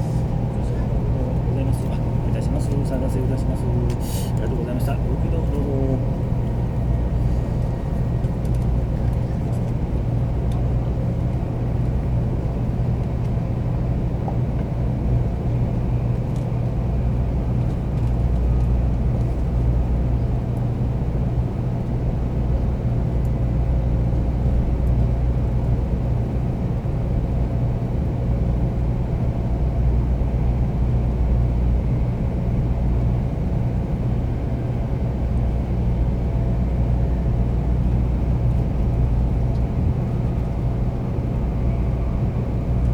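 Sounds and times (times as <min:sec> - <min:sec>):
train cabin low rumble: 0:00.0 - 0:42.9.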